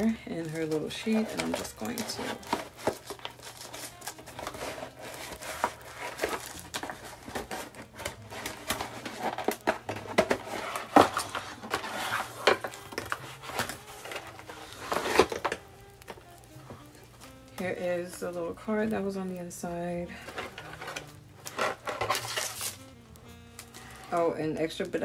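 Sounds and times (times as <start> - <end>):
packaging crinkling: 0.0 - 24.2.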